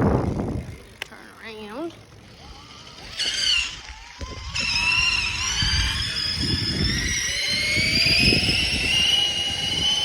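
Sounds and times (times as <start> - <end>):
electric bike motor whining: 0.0 - 10.0
wind buffeting microphone: 0.0 - 10.0.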